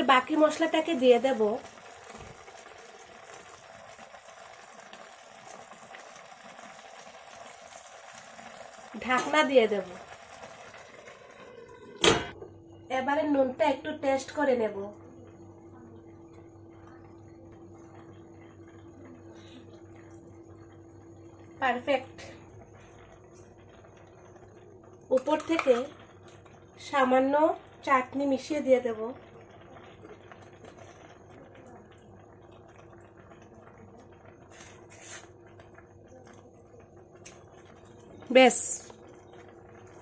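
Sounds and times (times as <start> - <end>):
soup simmering in a pan: 0.0 - 40.0
steady low hum: 0.0 - 40.0.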